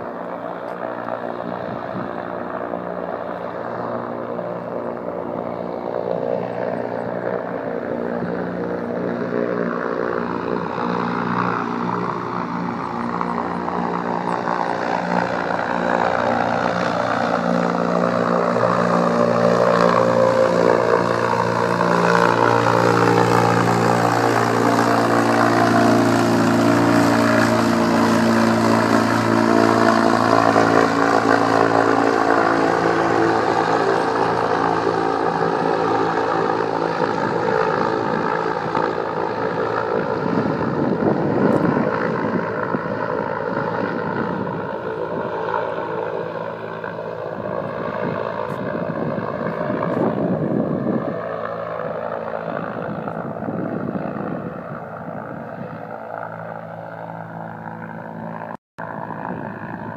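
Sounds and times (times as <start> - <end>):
propeller engine hum: 0.0 - 59.9.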